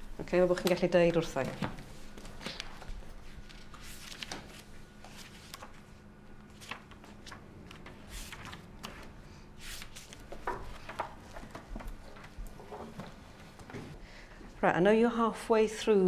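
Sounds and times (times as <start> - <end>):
book pages flipping: 0.6 - 14.0.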